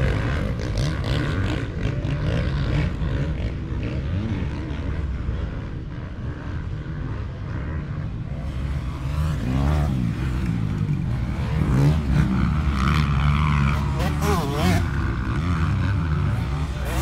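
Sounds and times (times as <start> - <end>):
dirt bike engine revving: 0.0 - 5.0, 8.3 - 17.0
distant dirt bikes rumbling: 0.0 - 17.0.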